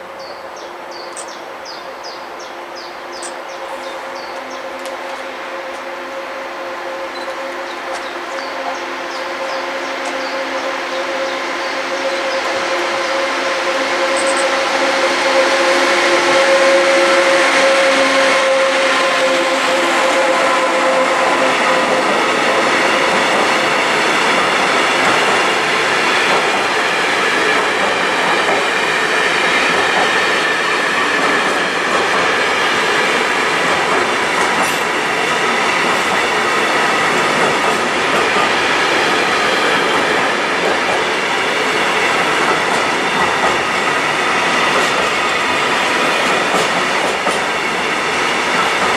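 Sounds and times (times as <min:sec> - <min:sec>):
electric locomotive whine: 0:00.0 - 0:48.9.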